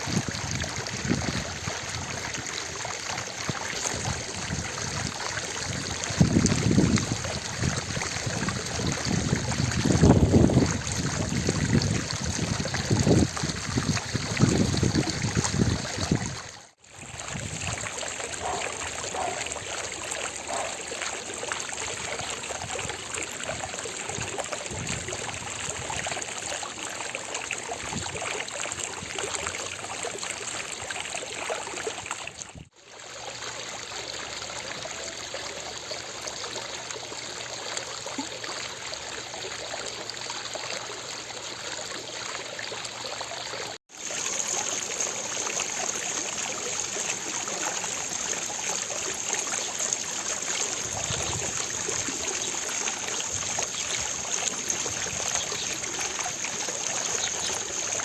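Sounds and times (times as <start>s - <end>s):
fountain water splashing: 0.0s - 58.0s.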